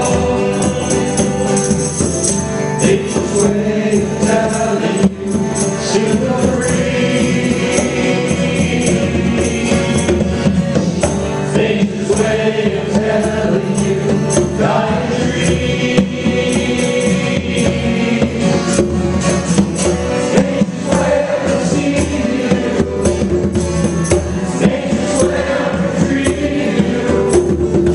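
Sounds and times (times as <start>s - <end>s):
conga drums: 0.0s - 27.9s
jingling hand percussion: 0.0s - 27.9s
people singing: 0.0s - 27.9s.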